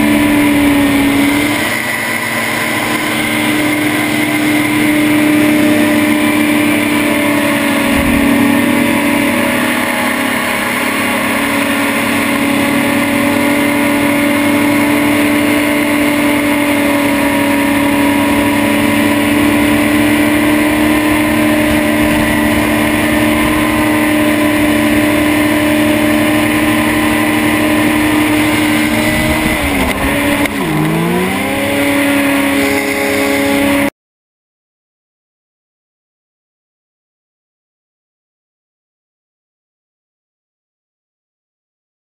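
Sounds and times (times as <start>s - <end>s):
hovercraft engine and fan: 0.0s - 33.9s
rushing noise: 0.0s - 33.9s.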